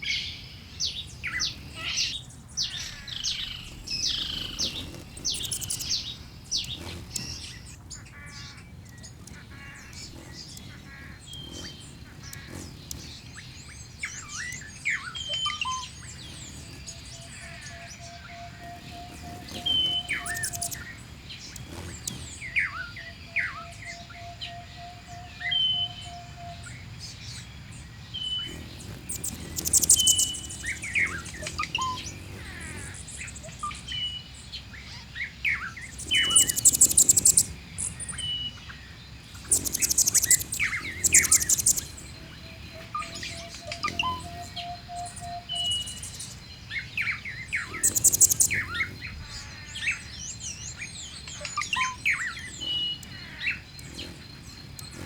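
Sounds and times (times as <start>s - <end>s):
birds calling: 0.0s - 55.0s
high rapid bird trills: 0.0s - 55.0s.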